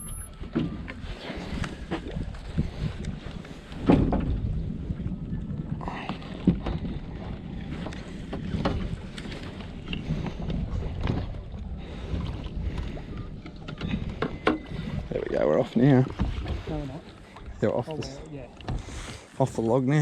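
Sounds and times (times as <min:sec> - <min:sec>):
wind rumble on microphone: 0:00.0 - 0:19.2.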